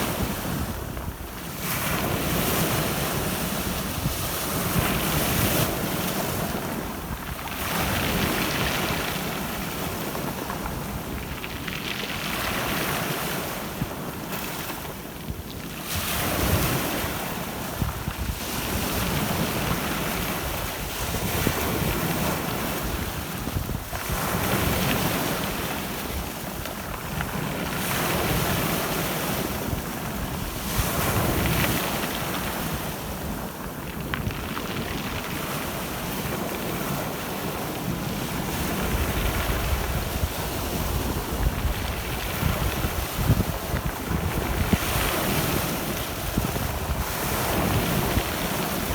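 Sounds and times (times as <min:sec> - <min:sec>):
waves breaking on shore: 0:00.0 - 0:48.9
wind buffeting microphone: 0:00.0 - 0:48.9.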